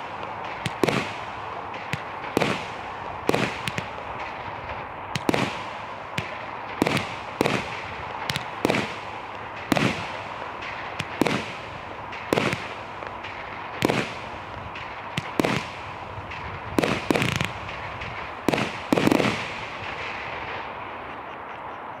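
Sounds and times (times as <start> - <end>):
firework barrage bangs: 0.0 - 21.1
steady firework hiss: 0.0 - 21.4.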